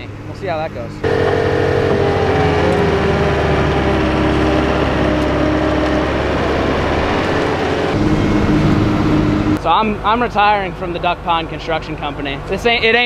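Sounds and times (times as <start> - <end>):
engine whine: 0.0 - 13.0
heavy machinery engines running: 0.0 - 13.0.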